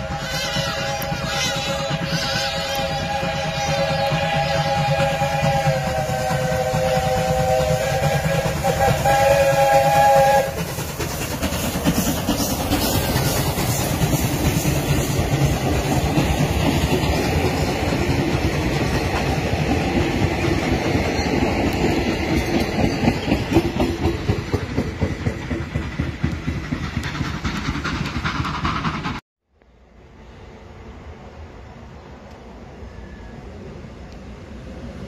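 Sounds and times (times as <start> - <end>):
train coaches rumbling past: 0.0 - 35.0
wheels clacking over rail joints: 0.1 - 29.2.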